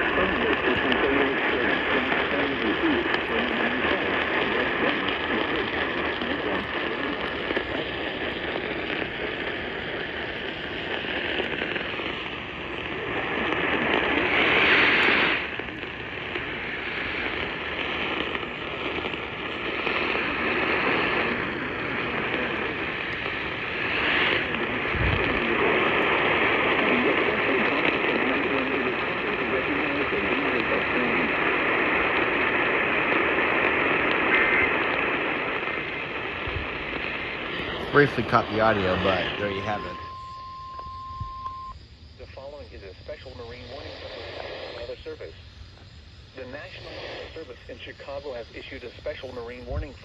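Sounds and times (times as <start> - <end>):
radio static hiss: 0.0 - 50.0.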